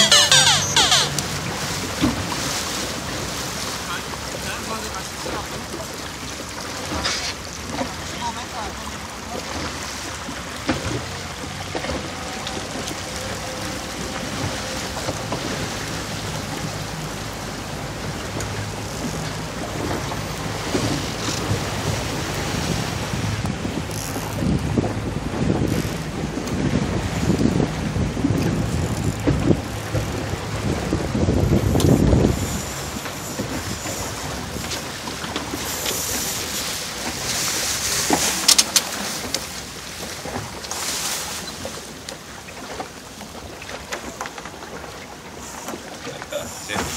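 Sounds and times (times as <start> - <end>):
water rushing past boat: 0.0 - 46.9
wind: 0.0 - 46.9.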